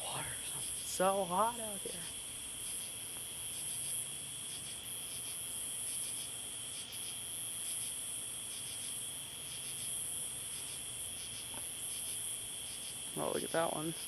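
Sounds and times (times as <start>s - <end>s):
insects trilling: 0.0s - 14.0s
pulsed insect call: 0.0s - 14.0s.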